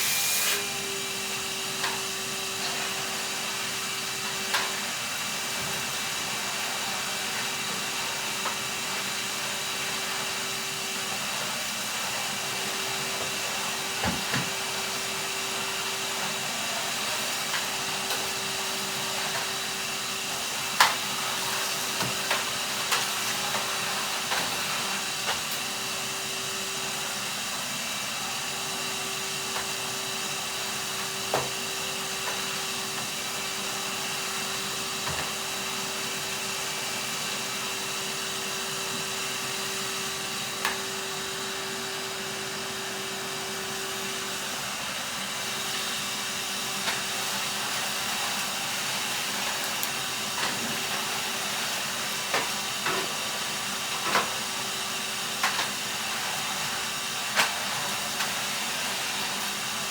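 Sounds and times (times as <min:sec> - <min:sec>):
vacuum cleaner humming: 0:00.0 - 0:59.9.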